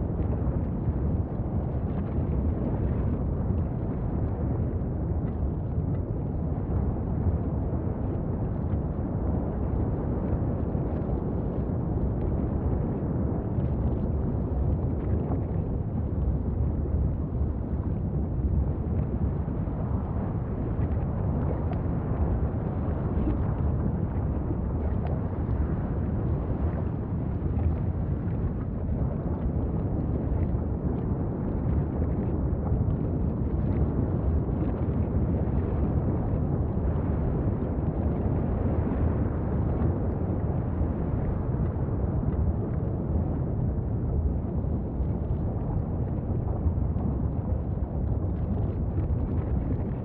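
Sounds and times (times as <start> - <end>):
volcanic vent rumbling: 0.0 - 50.0.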